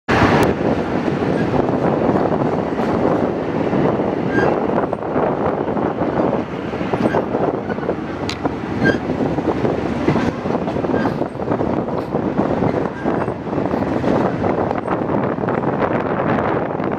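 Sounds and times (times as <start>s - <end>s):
rail clicks: 0.1s - 16.9s
train wheels rumbling on rails: 0.1s - 16.9s
wind on microphone: 0.1s - 16.9s.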